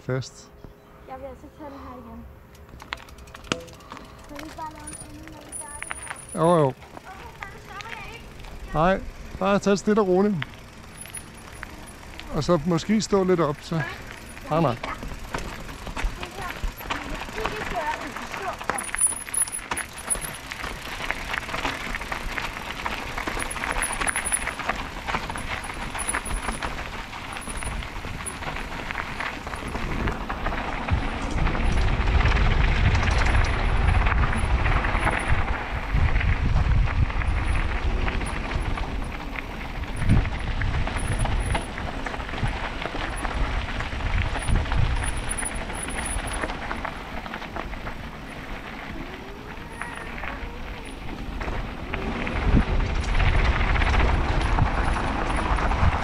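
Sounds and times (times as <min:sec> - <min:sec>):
bike tyres on gravel: 0:01.1 - 0:56.0
bike frame rattling: 0:02.5 - 0:56.0
deep rumble: 0:10.4 - 0:56.0.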